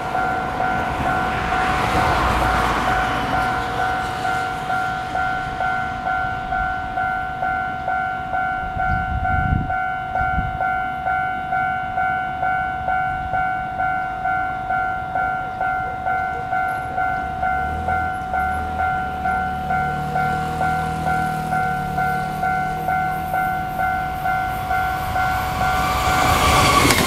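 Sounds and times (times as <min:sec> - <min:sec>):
level crossing warning bell: 0:00.0 - 0:27.0
train rumble: 0:00.0 - 0:27.0.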